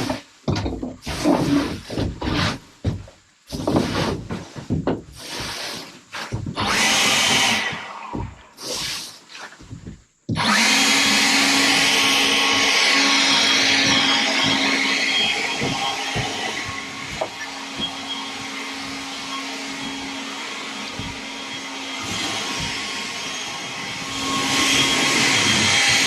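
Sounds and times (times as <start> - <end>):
knocks and scrapes: 0.0 - 10.5, 11.7 - 26.0.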